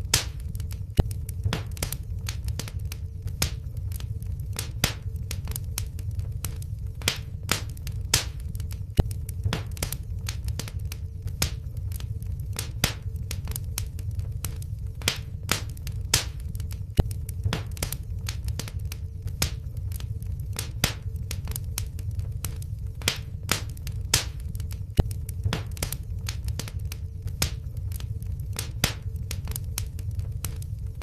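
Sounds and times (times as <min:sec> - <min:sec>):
low rumble of flame: 0:00.0 - 0:31.0
wood fire crackling and popping: 0:00.0 - 0:31.0.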